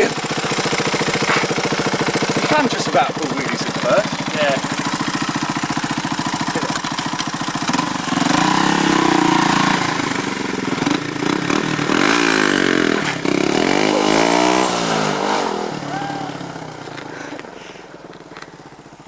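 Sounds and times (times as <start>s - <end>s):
small motorbike engine revving: 0.0s - 19.0s.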